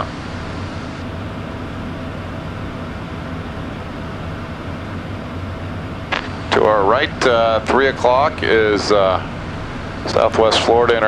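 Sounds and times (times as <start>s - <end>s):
jet airflow and engine hum: 0.0s - 11.0s.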